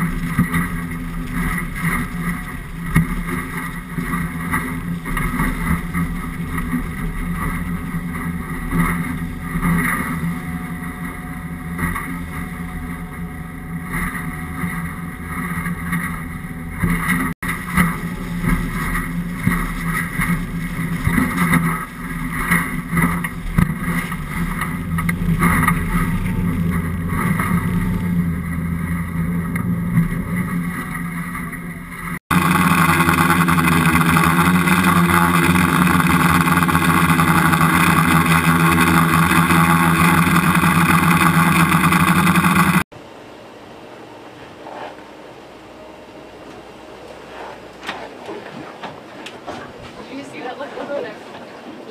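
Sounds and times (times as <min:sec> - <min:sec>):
boat outboard engines: 0:00.0 - 0:51.9.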